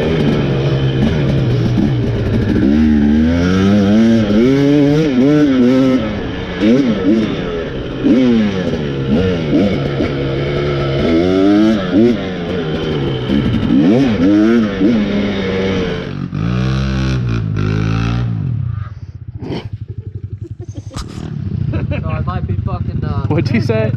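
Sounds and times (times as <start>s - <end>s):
dirt bike engine revving: 0.0s - 18.7s, 19.4s - 23.9s.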